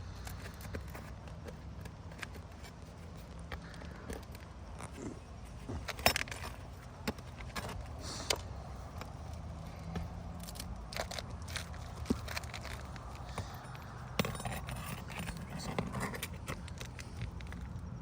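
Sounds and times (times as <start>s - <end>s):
hand tools clicking on shingles: 0.1s - 17.9s
tool scraping shingles: 0.2s - 17.7s.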